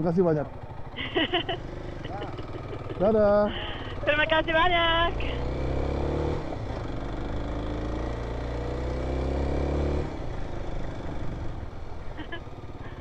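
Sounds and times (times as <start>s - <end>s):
motorcycle engine pulling away: 0.1s - 4.0s, 4.9s - 12.8s.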